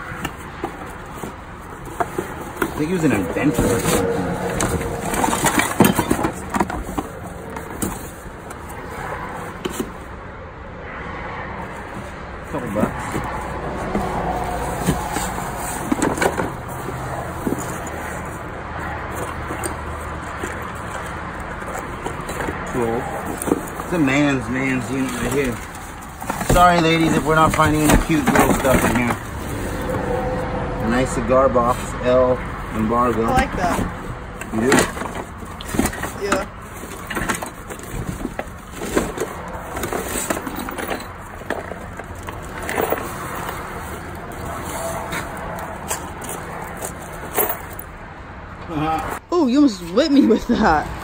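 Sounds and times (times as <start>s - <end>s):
rummaging through tools in box: 0.0s - 10.0s, 11.7s - 30.2s, 32.6s - 47.9s
sharp knocks and rattles: 0.0s - 10.0s, 11.9s - 30.1s, 33.2s - 48.0s
cardboard rustling and scraping: 0.0s - 10.2s, 11.6s - 30.2s, 32.6s - 47.8s
steady background noise: 0.0s - 51.0s.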